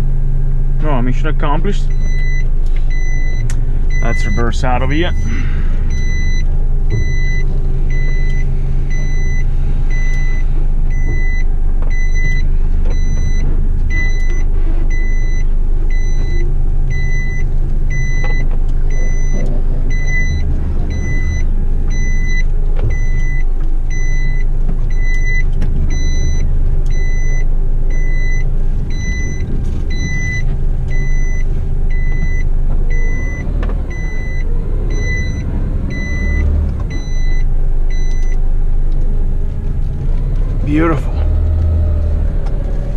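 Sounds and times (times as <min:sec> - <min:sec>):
truck engine running: 0:00.0 - 0:42.9
truck reversing alarm beeping: 0:00.8 - 0:38.7.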